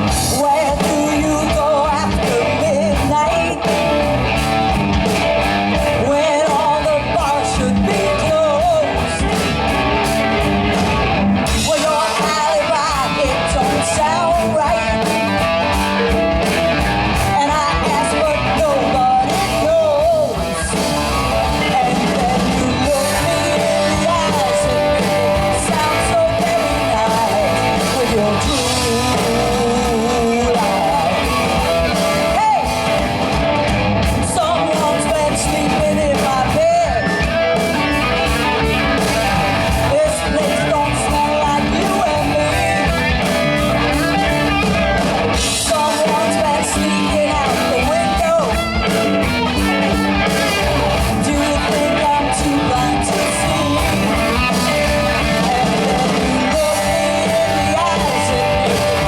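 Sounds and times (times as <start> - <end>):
man singing lead vocal: 0.0 - 4.4, 5.7 - 9.8, 11.4 - 33.4, 34.2 - 59.0
rock band playing live: 0.0 - 59.0.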